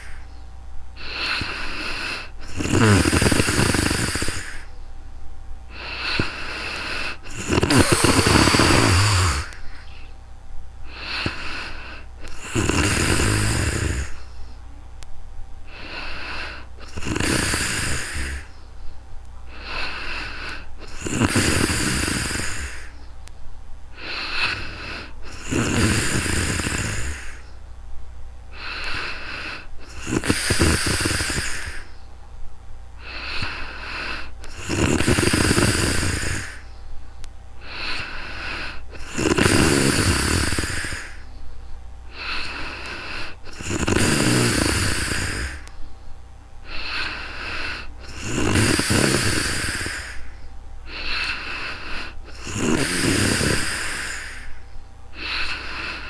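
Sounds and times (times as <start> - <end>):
soft breath: 0.0 - 10.2, 10.8 - 14.8, 15.6 - 17.1, 17.7 - 25.5, 28.5 - 32.2, 33.0 - 43.8, 44.4 - 56.0
woman snoring: 1.0 - 4.7, 5.7 - 10.1, 10.9 - 14.4, 15.7 - 18.6, 19.5 - 23.0, 23.9 - 27.4, 28.5 - 31.9, 33.0 - 36.6, 37.6 - 41.2, 42.1 - 45.7, 46.6 - 56.0.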